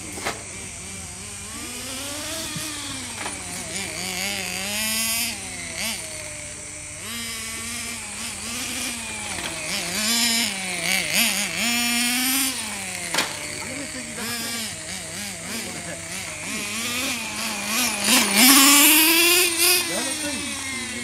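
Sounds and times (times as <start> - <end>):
model car engine revving: 0.0 - 21.0.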